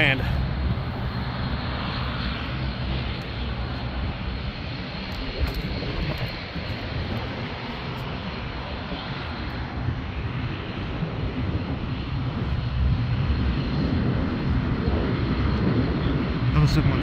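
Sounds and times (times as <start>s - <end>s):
aircraft engine rumble: 0.0s - 17.0s.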